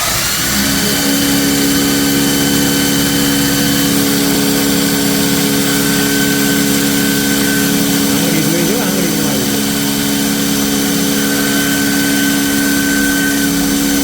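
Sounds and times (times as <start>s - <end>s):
belt grinder humming and hissing: 0.0s - 14.0s.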